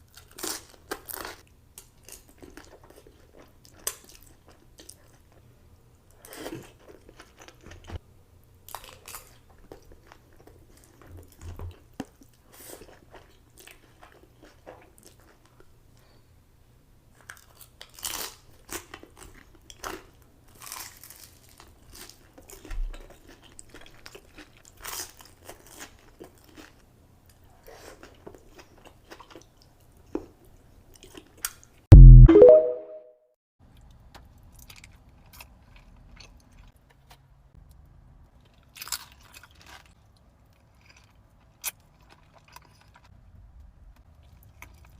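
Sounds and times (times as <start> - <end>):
person chewing crisp food: 0.0 - 5.4, 6.2 - 8.0, 8.7 - 15.6, 17.2 - 31.6, 33.8 - 37.3, 38.4 - 43.1, 44.1 - 44.9.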